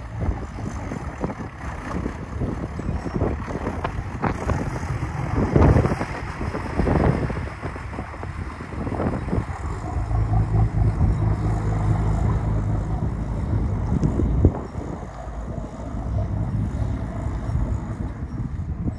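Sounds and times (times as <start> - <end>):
boat engine hum: 0.0 - 18.9
wind gusting on microphone: 0.0 - 18.9.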